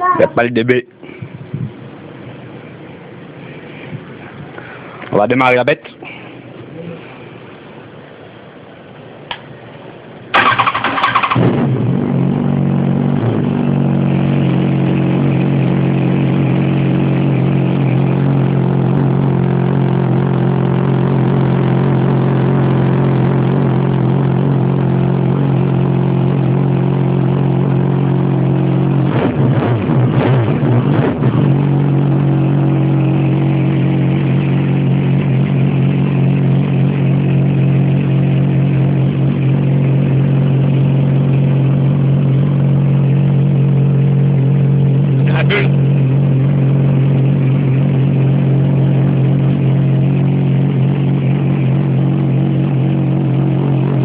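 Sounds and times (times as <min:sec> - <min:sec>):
motorcycle engine idling and revving: 0:00.0 - 0:05.4, 0:06.3 - 0:54.0.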